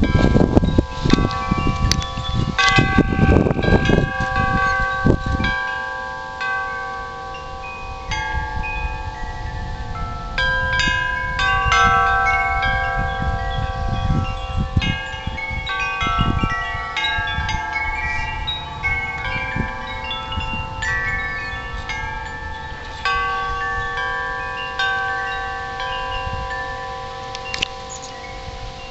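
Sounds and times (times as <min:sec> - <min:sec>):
wind buffeting microphone: 0:00.0 - 0:28.9
wind chimes ringing: 0:00.0 - 0:28.9.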